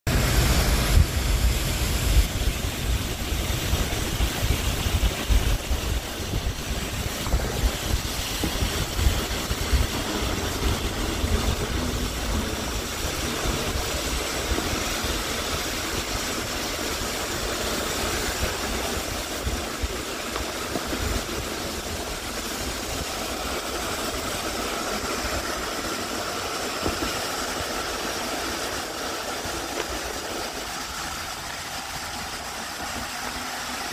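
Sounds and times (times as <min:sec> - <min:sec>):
car road noise: 0:00.1 - 0:33.9.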